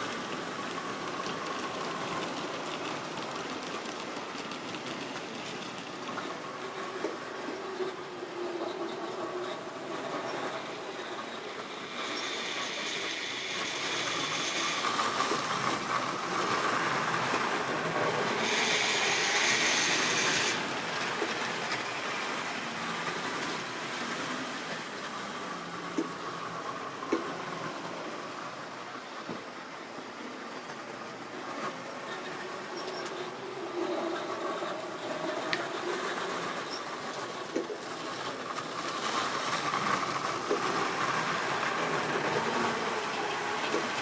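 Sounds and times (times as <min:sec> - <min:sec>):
model train running on track: 0:00.0 - 0:44.0.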